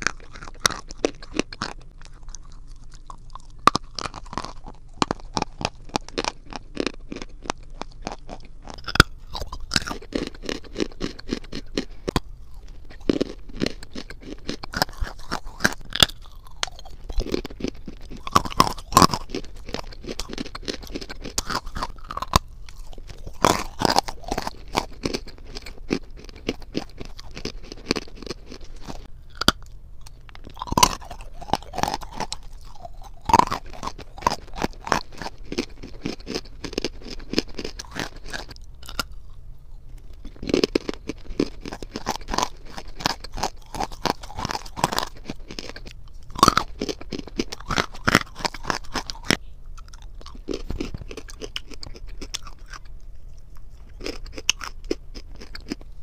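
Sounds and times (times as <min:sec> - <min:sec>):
chewing and crunching clay: 0:00.0 - 0:56.0.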